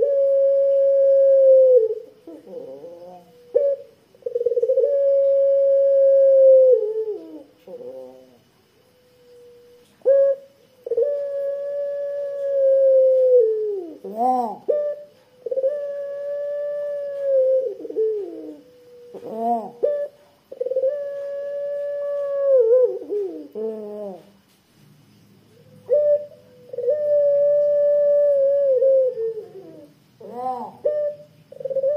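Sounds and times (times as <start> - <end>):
dove cooing: 0.0 - 24.4, 25.5 - 31.9.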